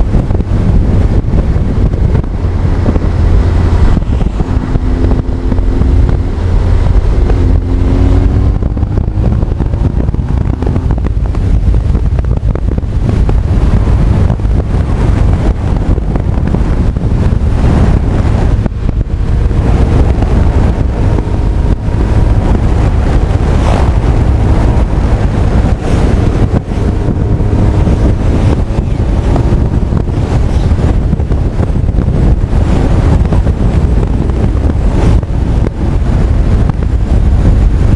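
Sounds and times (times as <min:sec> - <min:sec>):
heavy wind noise: 0:00.0 - 0:37.9
motorcycle engine: 0:00.0 - 0:37.9.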